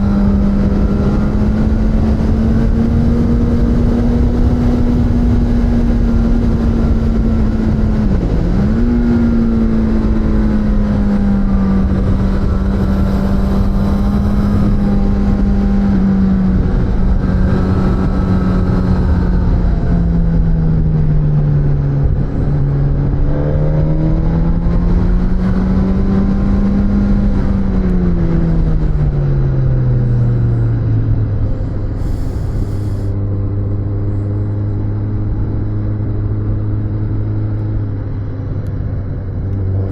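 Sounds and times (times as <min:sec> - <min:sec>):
wind rush: 0:00.0 - 0:36.7
motorcycle engine while riding: 0:00.0 - 0:39.9.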